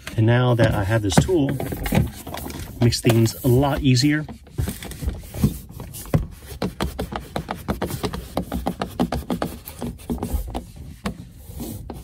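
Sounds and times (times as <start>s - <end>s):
pad scuffing on car window: 0.6s - 12.0s.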